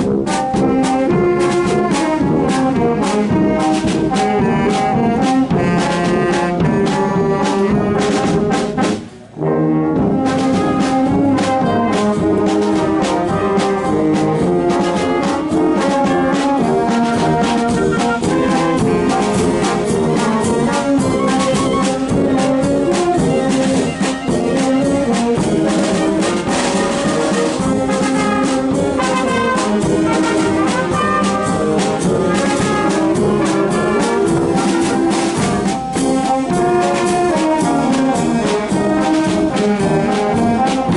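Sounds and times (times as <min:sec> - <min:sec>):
percussion beat: 0:00.0 - 0:09.2, 0:10.0 - 0:40.9
brass band playing: 0:00.0 - 0:40.9.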